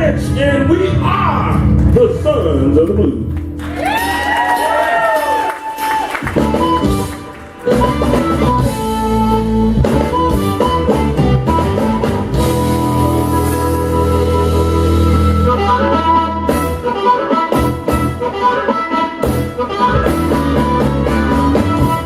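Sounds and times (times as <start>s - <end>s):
blues band playing: 0.0s - 22.0s.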